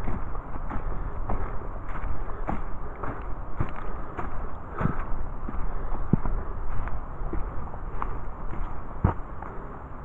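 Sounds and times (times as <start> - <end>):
footsteps on forest trail: 0.0 - 10.0
low steady rumble: 0.0 - 10.0.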